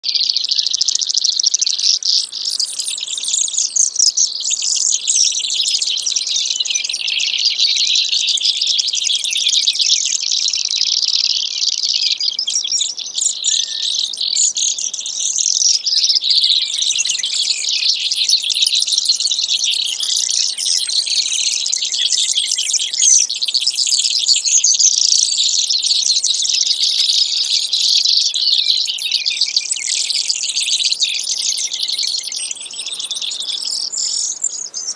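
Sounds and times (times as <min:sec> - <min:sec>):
bird buzzy trilling song: 0:00.0 - 0:34.9.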